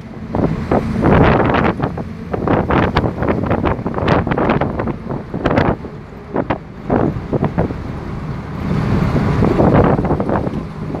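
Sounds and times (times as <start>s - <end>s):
moving vehicle rumble: 0.0s - 11.0s
wind buffeting microphone: 0.0s - 11.0s.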